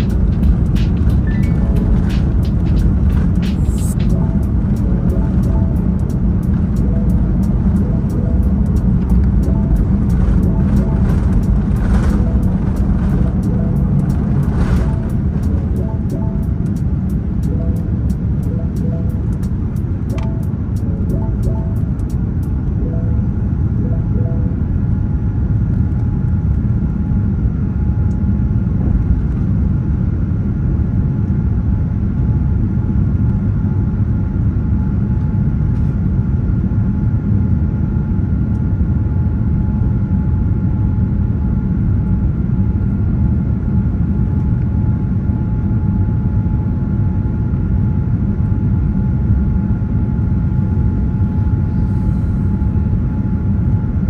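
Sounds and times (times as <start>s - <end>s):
high engine whine: 0.0s - 54.0s
jet engine and airflow rumble: 0.0s - 54.0s.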